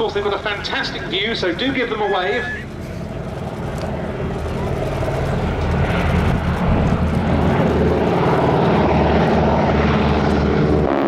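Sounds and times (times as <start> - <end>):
biplane engines droning: 0.0 - 11.0.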